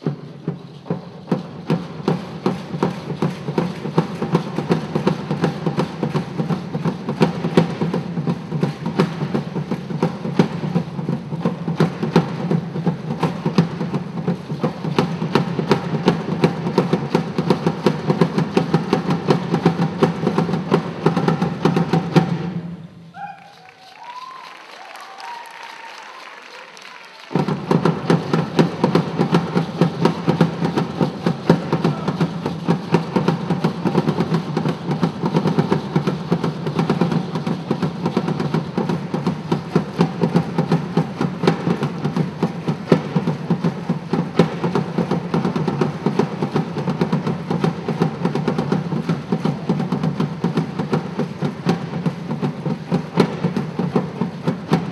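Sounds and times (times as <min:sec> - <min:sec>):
hand drums driving rhythm: 0:00.0 - 0:23.3, 0:27.3 - 0:54.9.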